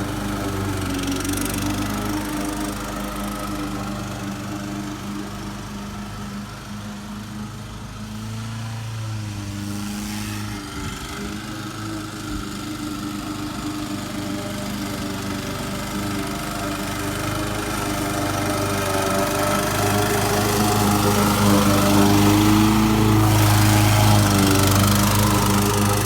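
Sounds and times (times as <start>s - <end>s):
lawn mower engine mowing grass: 0.0s - 26.0s.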